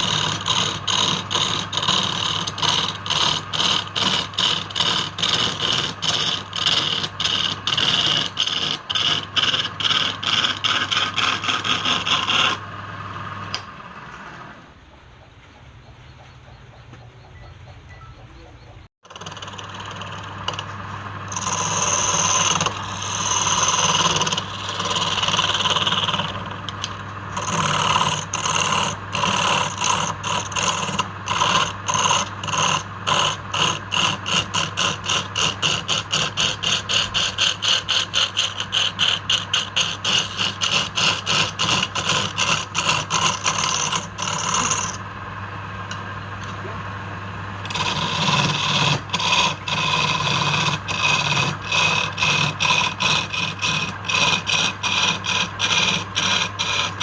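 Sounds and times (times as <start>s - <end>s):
scraping strokes on wood: 0.0s - 12.6s, 19.1s - 45.1s, 47.6s - 57.0s
steady machine hum: 0.0s - 57.0s.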